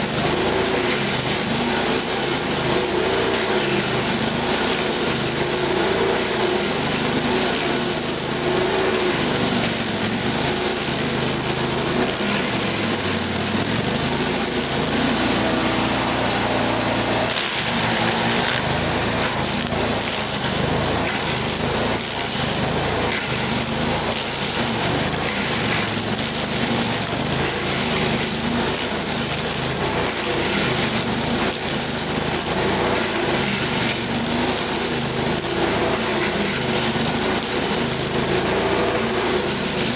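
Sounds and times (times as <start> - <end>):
stump grinder chewing wood: 0.0 - 39.9.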